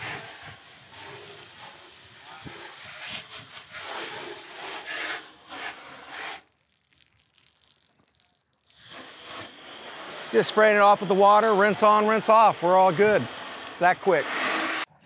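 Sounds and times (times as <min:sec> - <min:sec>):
hose spray hissing: 0:00.0 - 0:06.8, 0:07.7 - 0:14.9.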